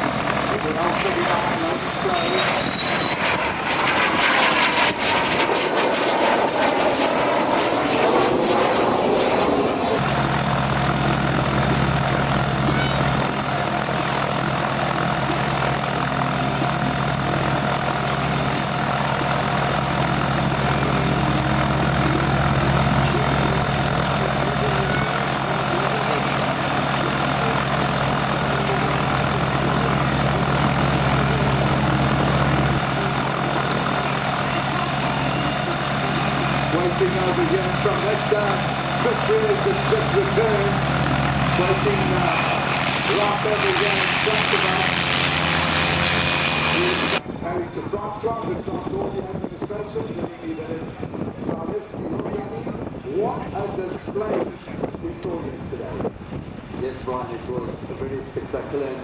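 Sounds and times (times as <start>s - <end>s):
aircraft flying past: 0.0s - 51.5s
aircraft engine running steadily: 0.0s - 59.0s.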